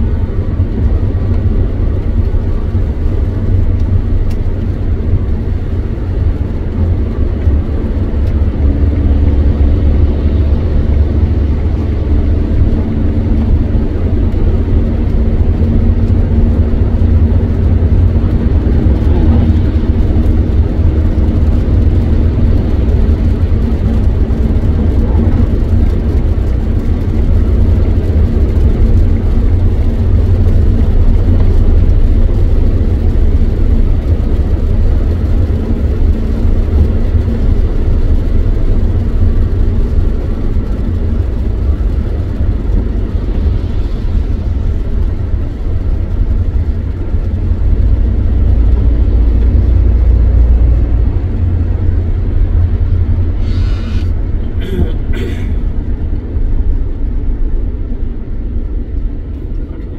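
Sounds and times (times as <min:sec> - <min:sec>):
car road rumble: 0:00.0 - 0:59.9
tyre noise on wet road: 0:00.0 - 0:59.9.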